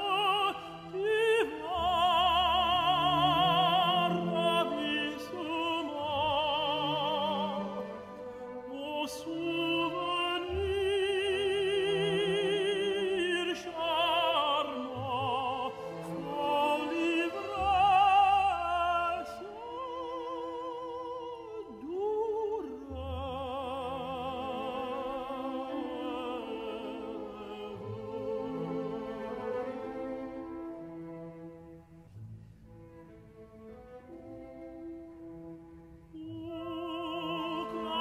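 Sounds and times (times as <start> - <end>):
operatic voice singing: 0.0 - 7.9, 8.6 - 29.4, 36.2 - 38.0
orchestral accompaniment: 0.0 - 38.0.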